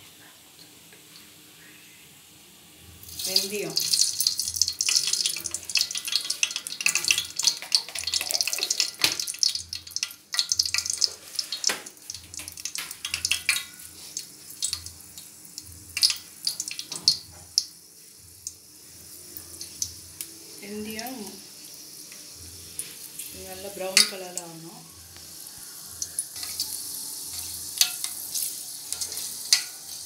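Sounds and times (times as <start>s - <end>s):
seeds crackling in hot oil: 2.7s - 30.0s.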